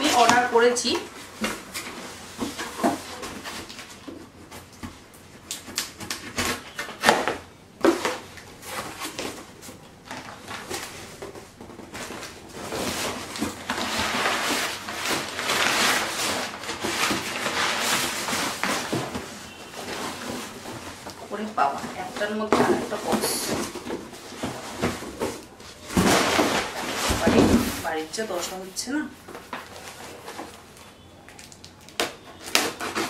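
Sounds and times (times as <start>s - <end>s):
crumpled paper rustling: 0.0s - 33.0s.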